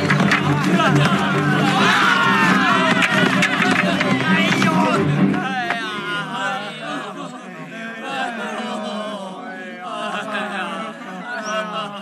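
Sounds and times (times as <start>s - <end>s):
men chanting in low drone: 0.0s - 12.0s.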